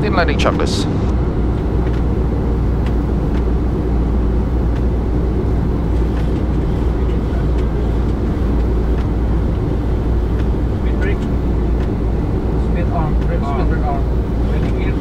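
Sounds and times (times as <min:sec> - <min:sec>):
cockpit rumble and air rush: 0:00.0 - 0:15.0.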